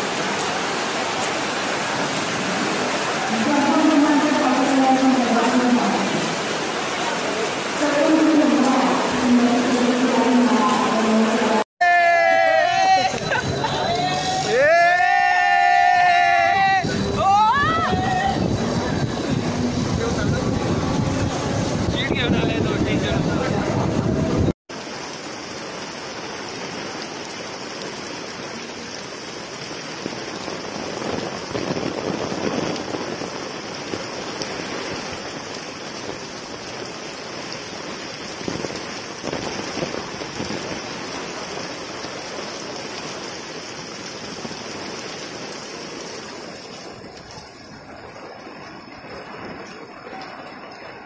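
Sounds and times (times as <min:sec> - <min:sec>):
floodwater rushing: 0:00.0 - 0:51.0
heavy rain falling: 0:00.0 - 0:51.0.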